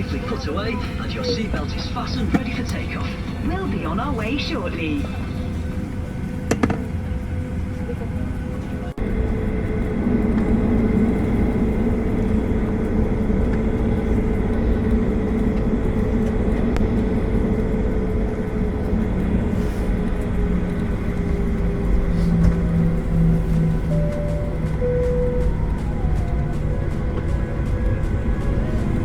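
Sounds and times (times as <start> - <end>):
jet engines droning in cabin: 0.0 - 29.0.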